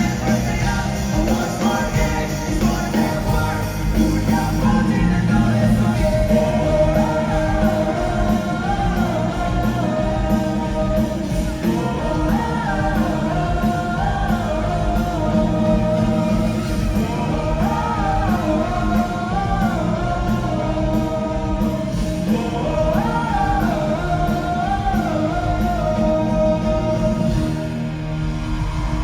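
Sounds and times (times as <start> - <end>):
person singing: 0.0 - 27.6
live rock band: 0.0 - 29.0.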